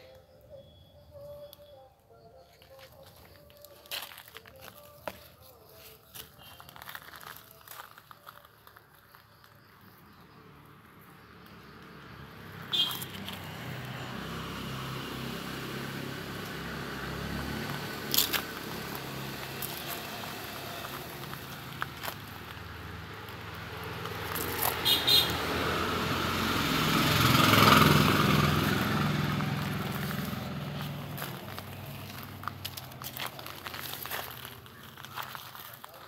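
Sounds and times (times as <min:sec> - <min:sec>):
road noise: 0:00.0 - 0:36.0
vehicle engine hum: 0:02.8 - 0:36.0.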